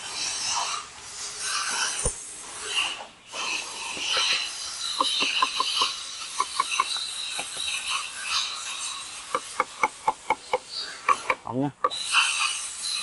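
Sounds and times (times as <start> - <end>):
compressor band rasping: 0.0 - 13.0.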